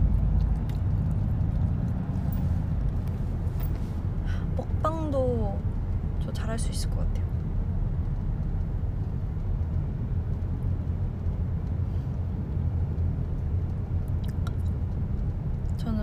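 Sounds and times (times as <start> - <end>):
car rumble from inside cabin: 0.0 - 16.0.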